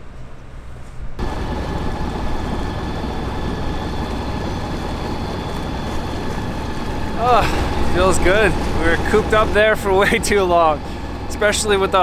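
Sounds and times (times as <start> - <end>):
boat engine rumbling: 1.1 - 12.0
water rushing in wake: 1.2 - 12.0.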